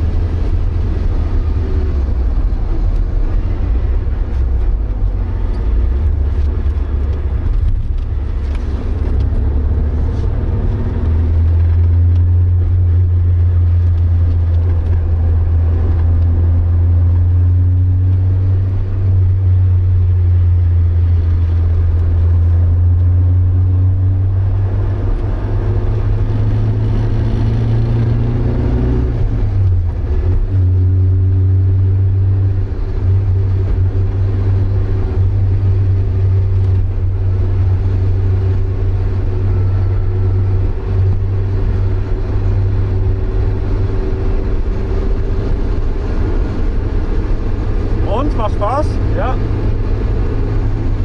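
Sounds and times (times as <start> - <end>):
car engine drone from inside: 0.0 - 51.0.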